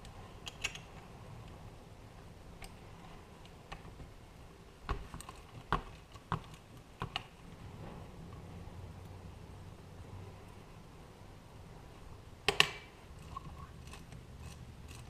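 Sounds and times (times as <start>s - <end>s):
wind rumbling outside: 0.0s - 15.0s.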